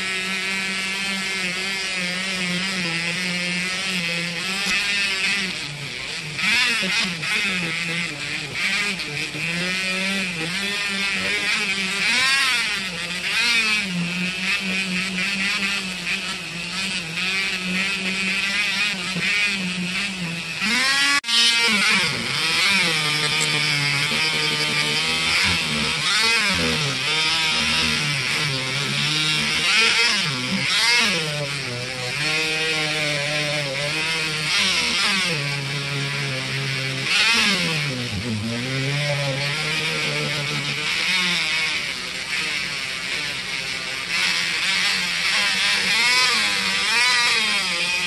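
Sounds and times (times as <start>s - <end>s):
rotary tool polishing metal: 0.0s - 48.0s.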